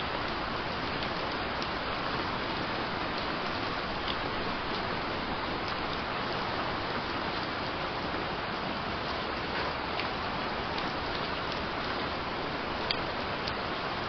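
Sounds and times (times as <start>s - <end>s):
light rain hissing: 0.0s - 14.0s
raindrops ticking: 0.0s - 14.0s.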